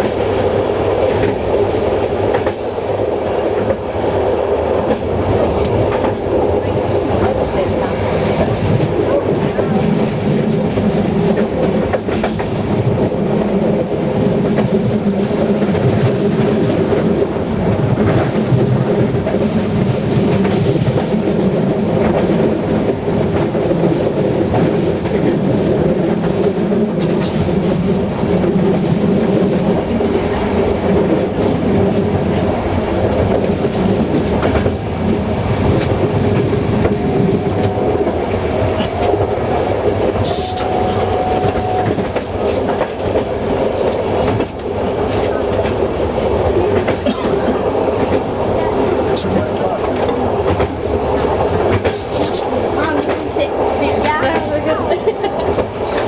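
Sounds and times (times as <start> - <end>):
train rumble: 0.0 - 56.0
wheels clickety-clack over rail joints: 0.0 - 56.0.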